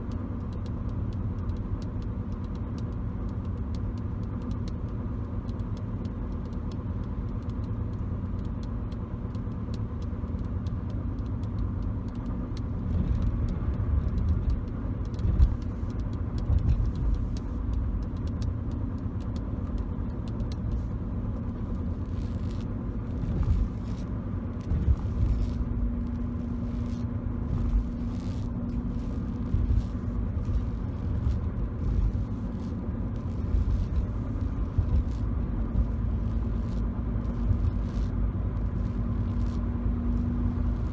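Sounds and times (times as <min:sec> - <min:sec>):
car road rumble: 0:00.0 - 0:40.9
fingertip tapping and scratching: 0:00.4 - 0:40.9.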